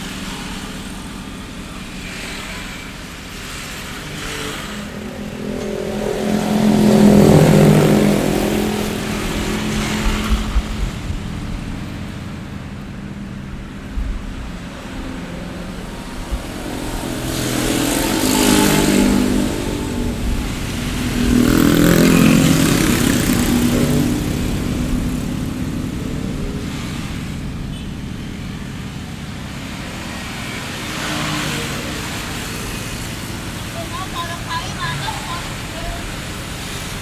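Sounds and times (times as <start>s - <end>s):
low rumble of traffic: 0.0s - 37.0s
vehicles passing close by: 0.0s - 37.0s.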